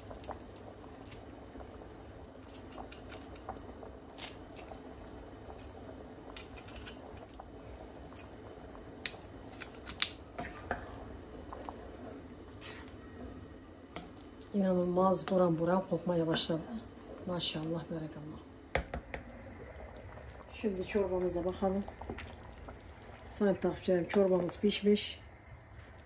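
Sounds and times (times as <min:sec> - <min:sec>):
soup bubbling in a pot: 0:00.0 - 0:26.0.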